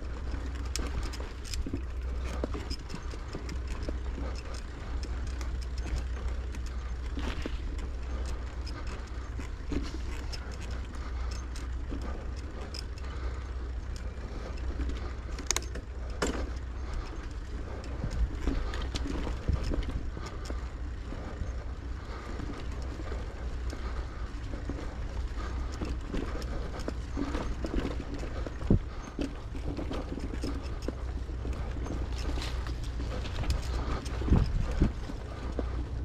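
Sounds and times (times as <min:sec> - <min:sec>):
bicycle rattles and clicks: 0:00.0 - 0:36.0
bicycle rolling rumble: 0:00.0 - 0:36.0.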